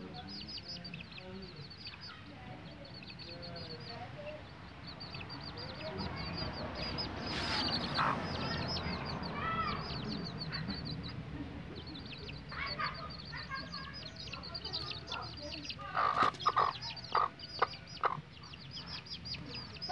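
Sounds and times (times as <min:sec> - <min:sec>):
chicks peeping: 0:00.0 - 0:19.9
hen clucking: 0:00.0 - 0:19.9.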